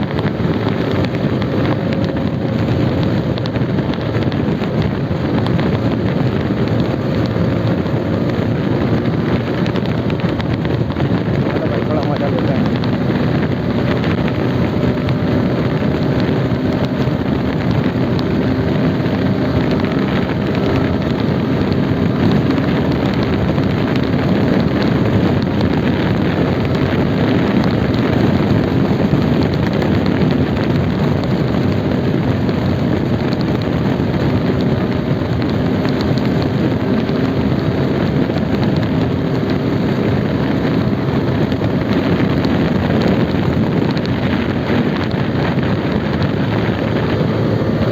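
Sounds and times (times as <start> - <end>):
motorcycle engine hum: 0.0 - 47.9
road noise: 0.0 - 47.9
rushing wind: 0.0 - 47.9.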